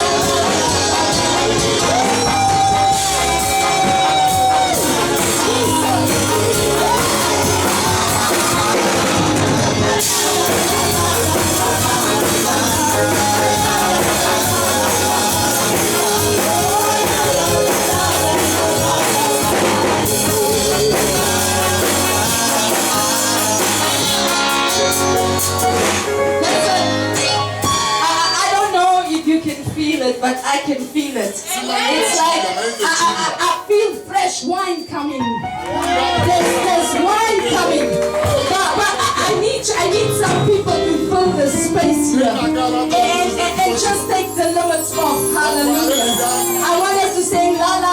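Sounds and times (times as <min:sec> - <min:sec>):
voices singing: 0:00.0 - 0:29.5, 0:30.9 - 0:34.7, 0:35.6 - 0:47.9
band playing worship music: 0:00.0 - 0:47.9.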